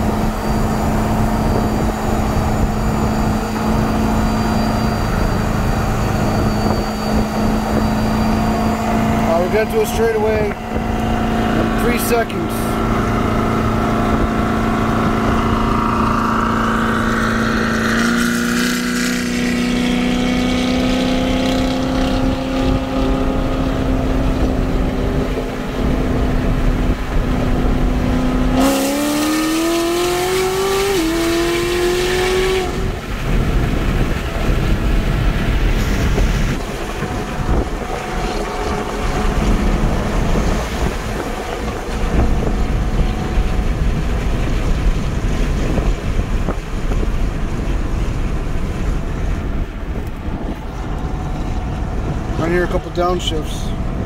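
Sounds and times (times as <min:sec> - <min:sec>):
supercharged engine pulling hard: 0:00.0 - 0:54.0
wind and road noise: 0:00.0 - 0:54.0.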